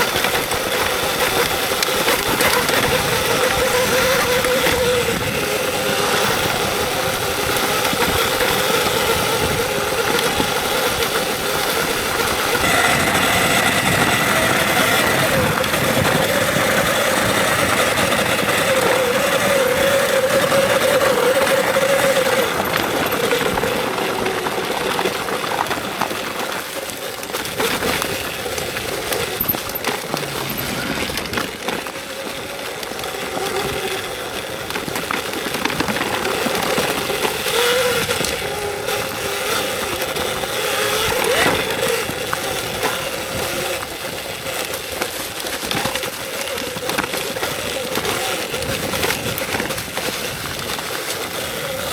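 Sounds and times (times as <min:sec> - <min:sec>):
electric motor whining: 0:00.0 - 0:51.9
tyre noise: 0:00.0 - 0:51.9.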